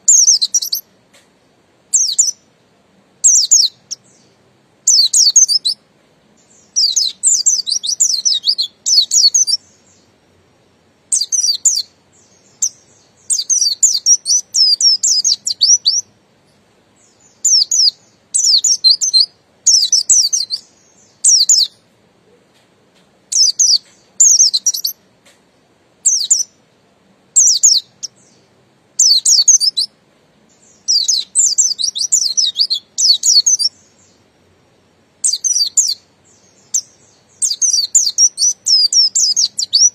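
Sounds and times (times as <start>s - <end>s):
bird twittering song: 0.0s - 2.5s, 3.2s - 26.6s, 27.4s - 39.9s.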